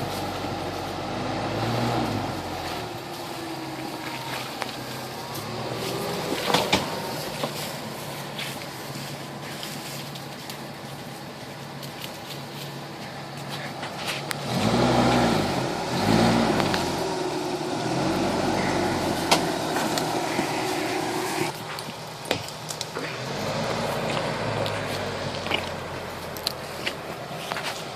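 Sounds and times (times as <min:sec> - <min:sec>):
truck engine idling and revving: 0:00.0 - 0:27.9.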